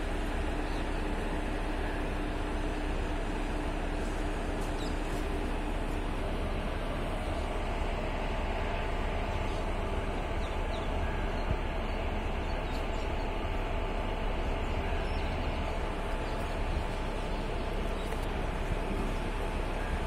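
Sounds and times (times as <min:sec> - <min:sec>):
constant hum: 0:00.0 - 0:20.0
electric locomotive rumbling: 0:00.0 - 0:20.0.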